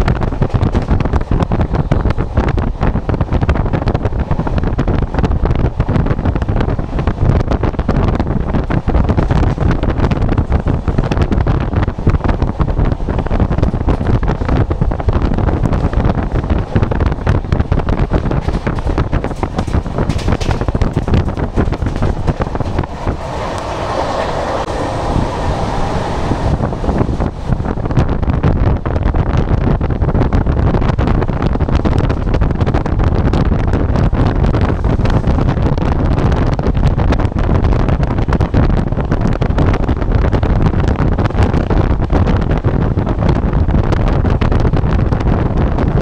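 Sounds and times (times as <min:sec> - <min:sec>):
train wheels rumbling and clattering: 0:00.0 - 0:46.0
wind rushing on microphone: 0:00.0 - 0:46.0.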